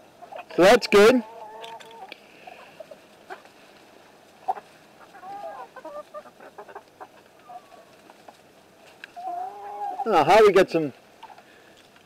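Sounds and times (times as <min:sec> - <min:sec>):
chickens clucking: 0:00.0 - 0:11.9.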